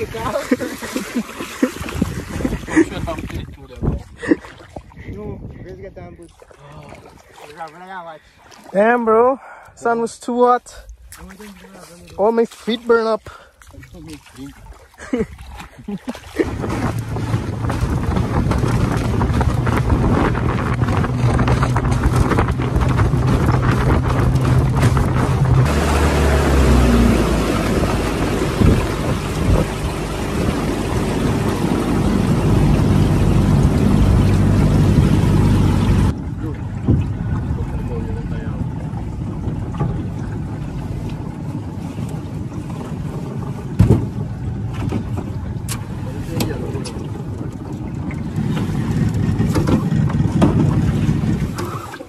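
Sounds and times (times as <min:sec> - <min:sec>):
outboard motor running: 0:00.0 - 0:09.8, 0:10.4 - 0:52.0
wind buffeting microphone: 0:01.7 - 0:07.4, 0:15.4 - 0:51.8.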